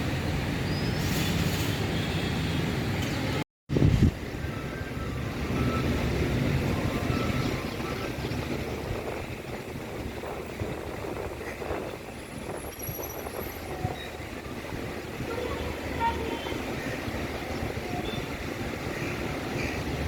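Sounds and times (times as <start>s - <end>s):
passing vehicle rumble: 0.0s - 20.0s.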